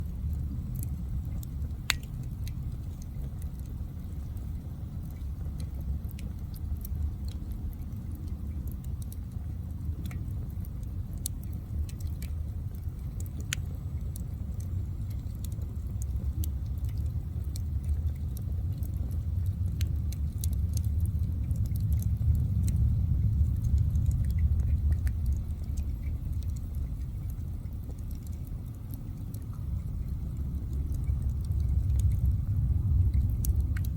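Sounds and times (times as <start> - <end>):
fire crackles and pops: 0.0 - 33.9
rumble of fire flames: 0.0 - 33.9.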